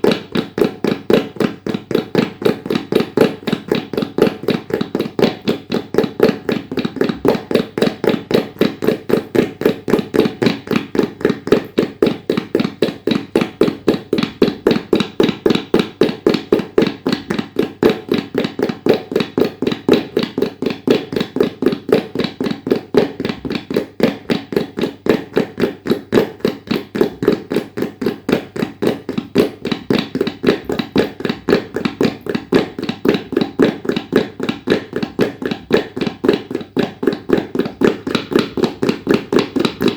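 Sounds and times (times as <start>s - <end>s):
tabla fast strokes: 0.0s - 39.9s.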